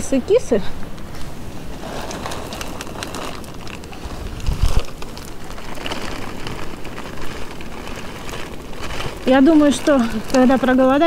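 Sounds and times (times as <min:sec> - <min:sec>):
dry kibble pattering down: 0:01.8 - 0:11.0.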